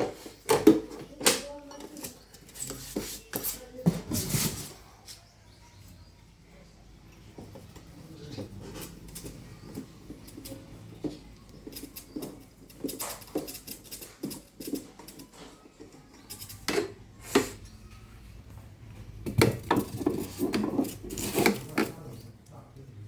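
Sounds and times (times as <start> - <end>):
objects knocking and tapping: 0.0 - 4.8, 7.2 - 17.7, 18.5 - 22.3.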